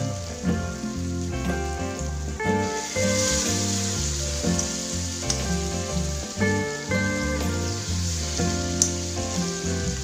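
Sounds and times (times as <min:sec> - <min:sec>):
background music with held notes: 0:00.0 - 0:10.0
food sizzling in a pan: 0:00.0 - 0:10.0.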